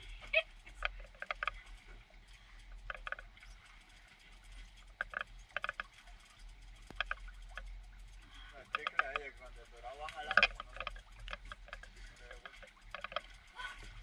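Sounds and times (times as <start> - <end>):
fishing reel clicking: 0.0 - 14.0.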